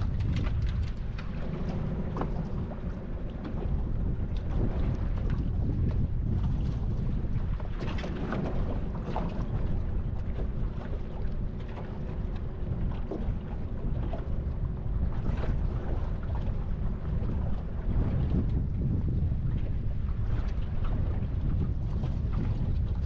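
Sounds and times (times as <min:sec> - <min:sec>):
water splashing against hull: 0:00.0 - 0:23.0
wind buffeting microphone: 0:00.0 - 0:23.0.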